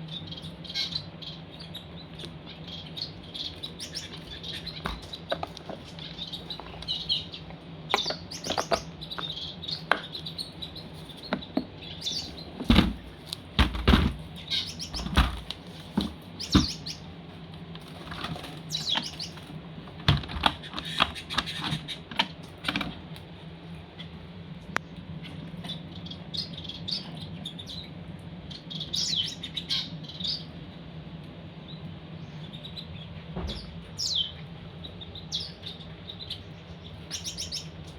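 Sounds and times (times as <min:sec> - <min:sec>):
low steady hum: 0:00.0 - 0:37.9
small birds chirping: 0:00.0 - 0:37.9.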